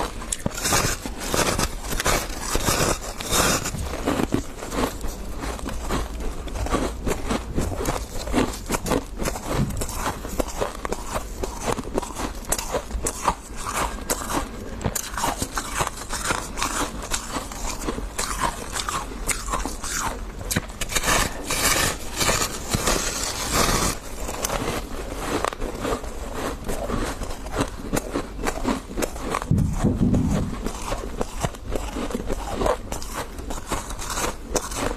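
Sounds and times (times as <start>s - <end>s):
chewing crunchy frost: 0.0s - 34.9s.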